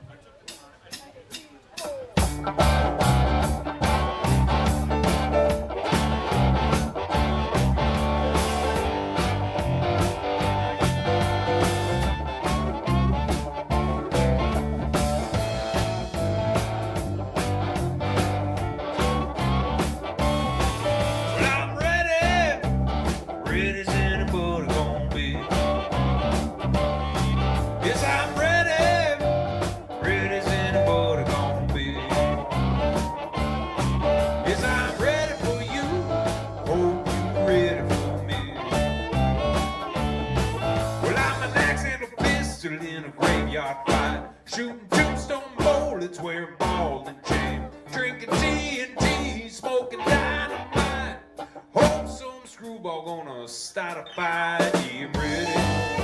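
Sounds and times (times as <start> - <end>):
blues-rock band playing: 0.5 - 56.0
bending lead guitar line: 1.9 - 52.5, 53.2 - 56.0.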